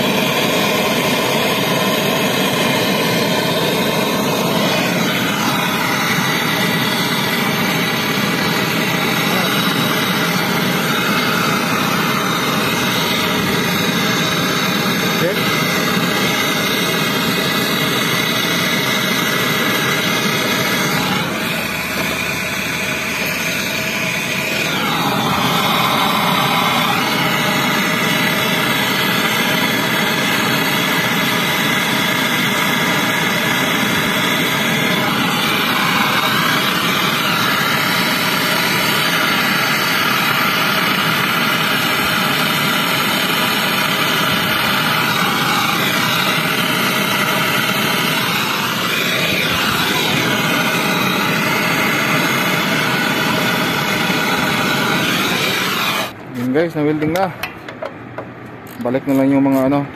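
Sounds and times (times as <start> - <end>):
gas torch hissing: 0.0 - 57.6, 58.6 - 59.8.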